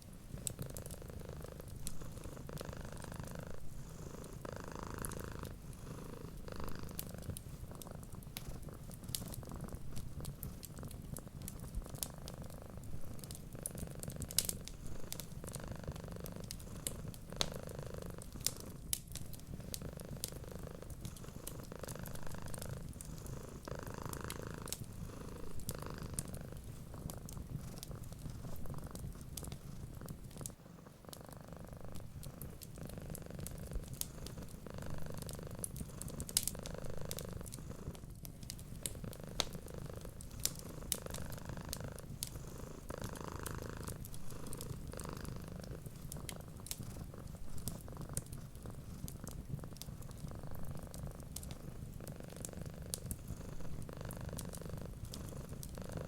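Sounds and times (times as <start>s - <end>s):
wood fire crackling: 0.0s - 55.9s
cat purring: 0.0s - 56.0s.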